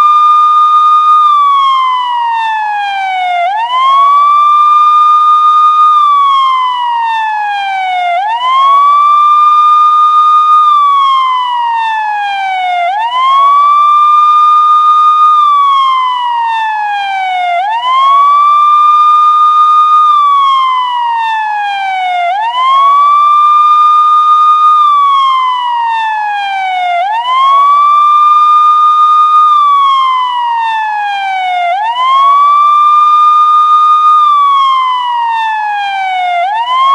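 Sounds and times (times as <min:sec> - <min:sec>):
police siren wailing: 0:00.0 - 0:36.9.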